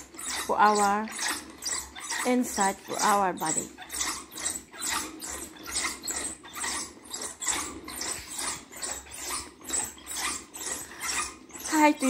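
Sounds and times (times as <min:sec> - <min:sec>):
wooden rollers rattling: 0:00.0 - 0:12.0.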